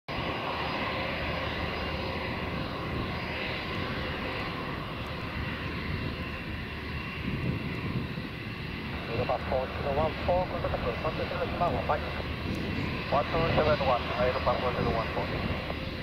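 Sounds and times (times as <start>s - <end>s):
jet engines idling: 0.1s - 16.0s.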